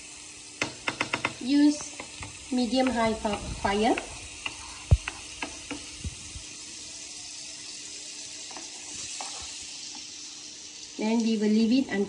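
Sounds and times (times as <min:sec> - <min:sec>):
butter sizzling on a hot plate: 0:00.0 - 0:12.0.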